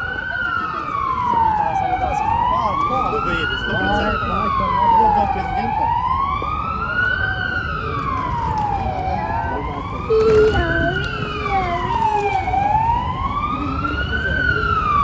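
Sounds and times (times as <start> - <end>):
emergency siren wailing: 0.0 - 15.0
street traffic noise: 0.0 - 15.0.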